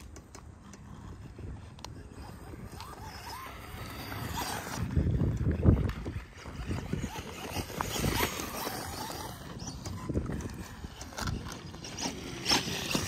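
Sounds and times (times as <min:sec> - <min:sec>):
tyres over loose gravel: 0:00.0 - 0:13.0
wind buffeting microphone: 0:00.0 - 0:13.0
electric motor running: 0:00.8 - 0:13.0.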